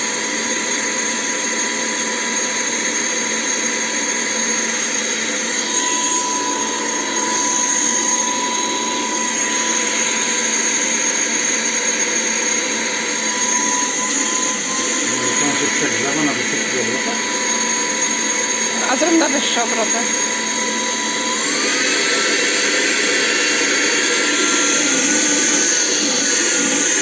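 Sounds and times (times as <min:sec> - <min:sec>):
handheld vacuum cleaner whining: 0:00.0 - 0:27.0.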